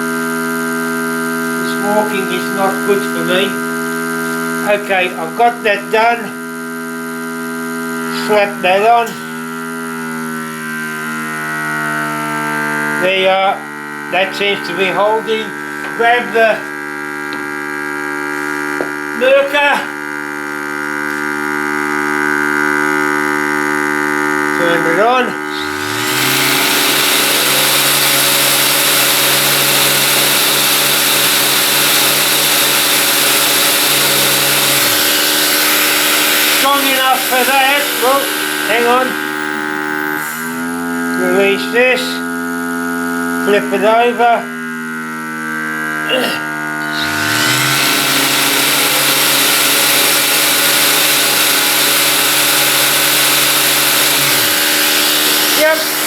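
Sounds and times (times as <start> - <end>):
vacuum pump motor hum: 0.0 - 56.0.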